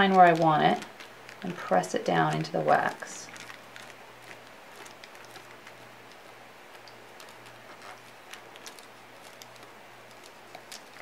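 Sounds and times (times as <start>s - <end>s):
fingertips ticking on wax: 0.0s - 11.0s
low steady hum: 0.0s - 11.0s.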